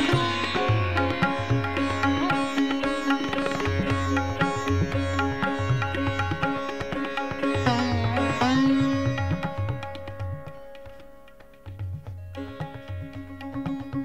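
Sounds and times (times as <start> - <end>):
plucked string instrument: 0.0 - 14.0.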